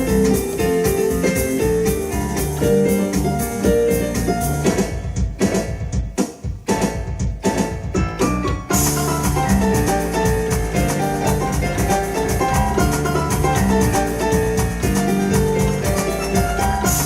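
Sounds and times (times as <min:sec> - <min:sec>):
electronic organ dance music: 0:00.0 - 0:17.0.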